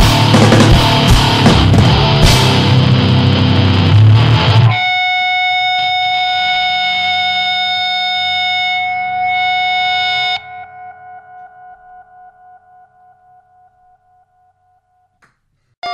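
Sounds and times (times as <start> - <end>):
distorted guitar music: 0.0 - 14.2
held distorted guitar tone: 0.0 - 15.1.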